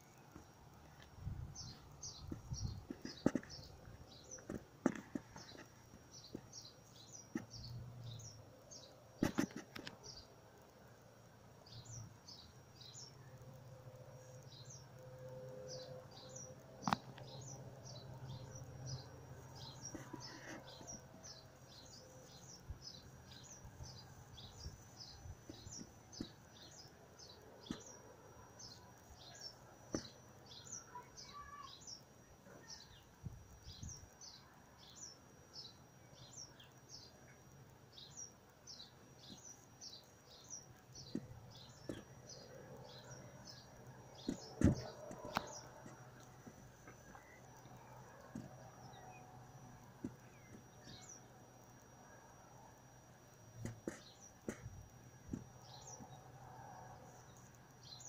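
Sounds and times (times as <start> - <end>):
bird chirping: 1.5 - 10.3, 14.2 - 51.9.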